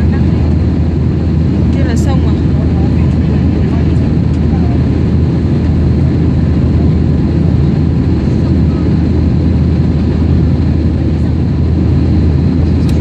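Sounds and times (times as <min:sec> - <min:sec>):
airliner engines rumbling: 0:00.0 - 0:13.0.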